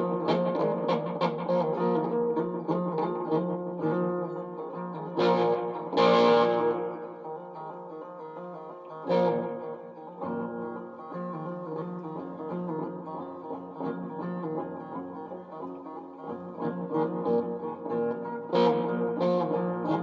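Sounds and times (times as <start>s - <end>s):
guitar picking: 0.0s - 20.0s.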